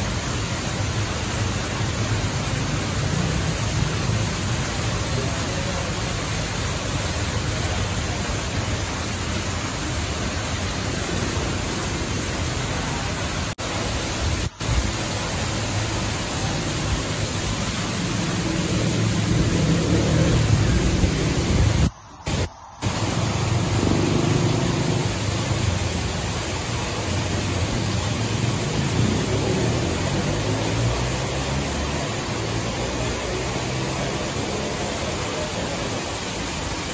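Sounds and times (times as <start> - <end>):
waterfall splashing into pond: 0.0 - 36.9.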